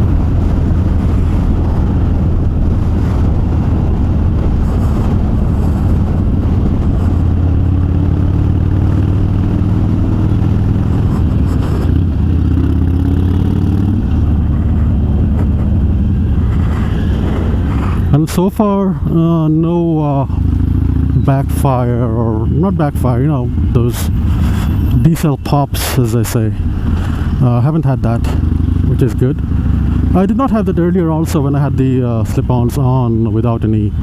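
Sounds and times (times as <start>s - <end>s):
motorcycle exhaust note: 0.0s - 25.6s, 26.5s - 31.4s
riding noise rush: 0.0s - 34.0s.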